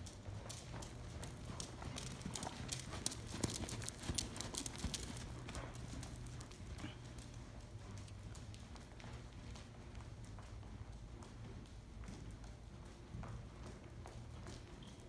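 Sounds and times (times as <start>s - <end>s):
horse hoofbeats at a trot: 0.0s - 15.0s.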